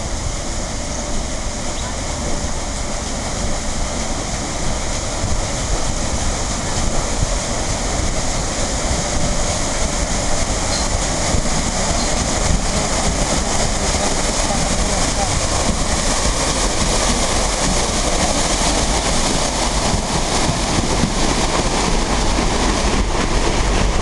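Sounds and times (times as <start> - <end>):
paddlewheel churning water: 0.0 - 24.0.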